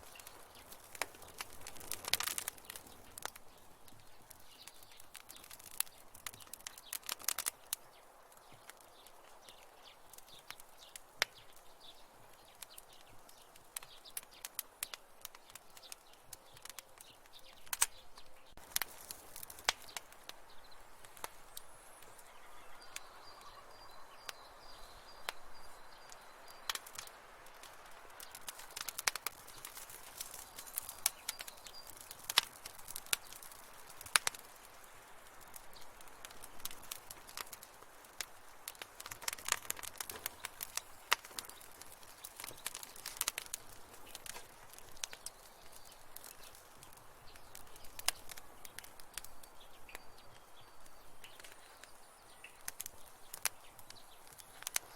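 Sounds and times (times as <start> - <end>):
soft hiss of burning: 0.0 - 54.9
wood fire popping and snapping: 0.0 - 54.9.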